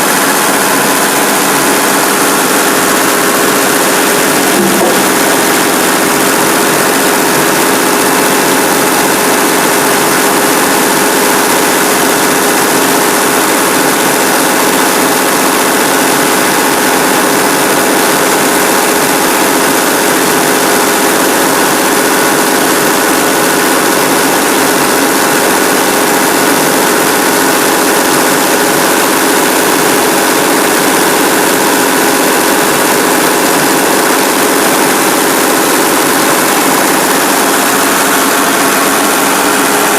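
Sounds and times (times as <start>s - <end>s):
sawmill droning: 0.0s - 39.9s.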